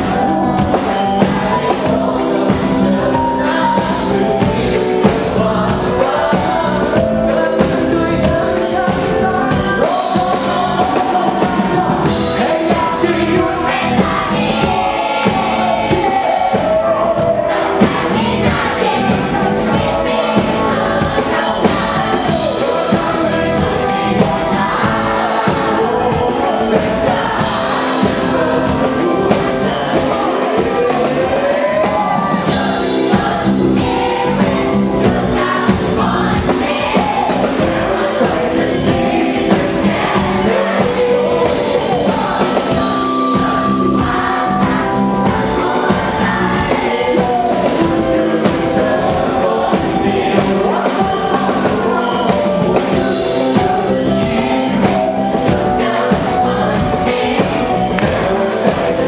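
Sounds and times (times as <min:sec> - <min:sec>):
lead singer: 0:00.0 - 0:59.0
live band music: 0:00.0 - 0:59.0.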